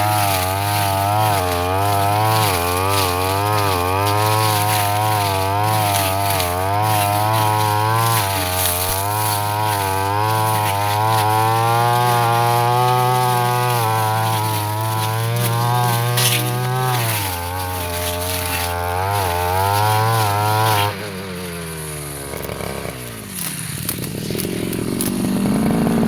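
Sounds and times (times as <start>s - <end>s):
brush cutter engine cutting grass: 0.0s - 26.0s.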